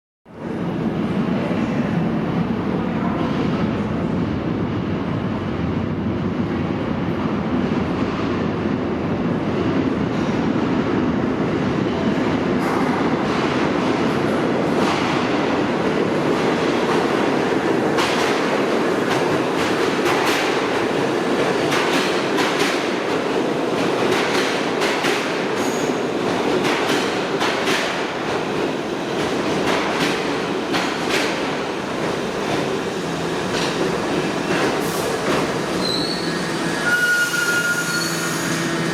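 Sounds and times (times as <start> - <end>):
subway train rumbling: 0.3 - 38.9.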